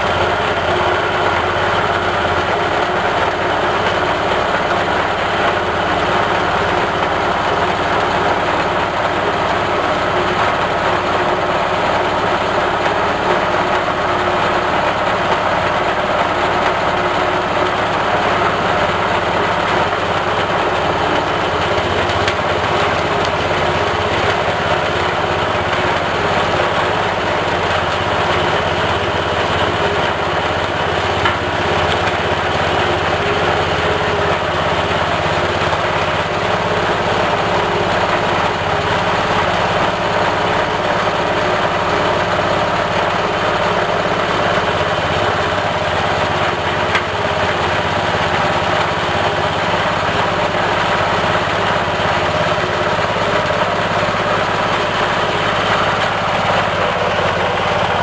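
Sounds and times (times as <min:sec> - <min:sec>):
grinding machine drone: 0:00.0 - 0:58.0.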